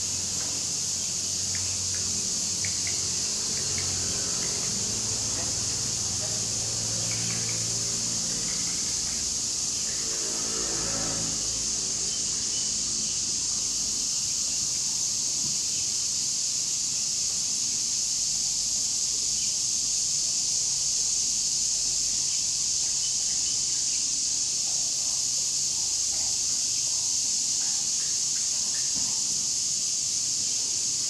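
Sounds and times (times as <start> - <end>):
cicadas chorus: 0.0 - 31.0.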